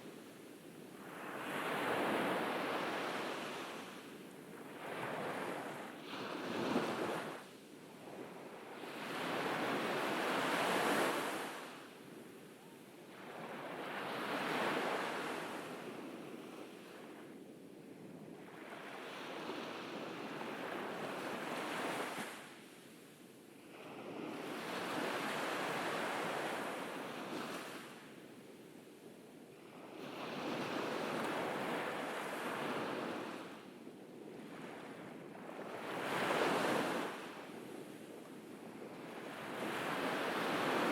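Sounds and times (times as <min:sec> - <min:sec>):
ocean waves breaking on beach: 0:00.0 - 0:40.9.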